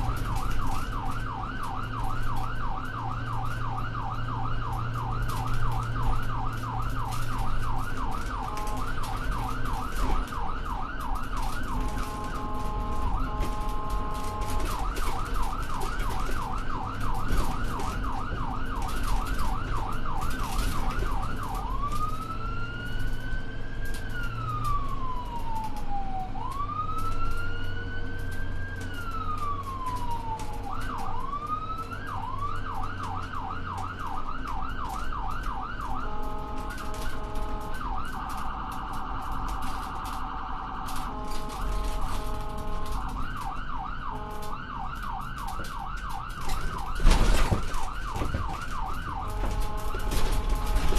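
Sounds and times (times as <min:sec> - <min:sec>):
electronic emergency siren: 0:00.0 - 0:50.9.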